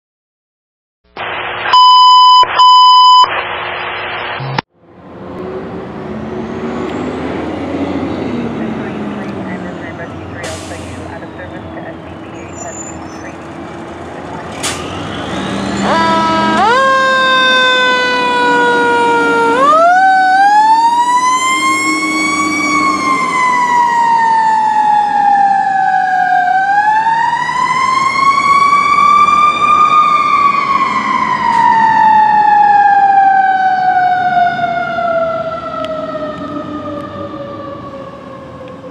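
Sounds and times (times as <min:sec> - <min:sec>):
fire engine siren wailing: 0:04.8 - 0:38.9.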